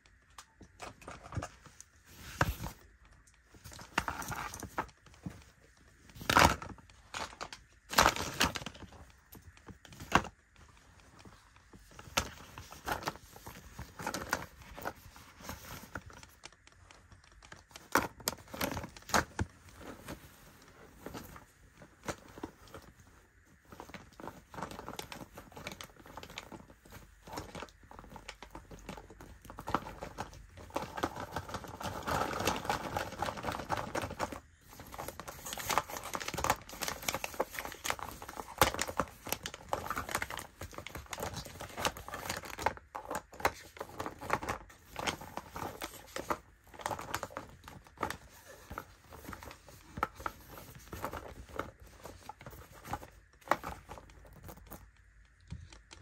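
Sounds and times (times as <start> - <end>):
hands rummaging in sequined pouch: 0.8 - 55.0.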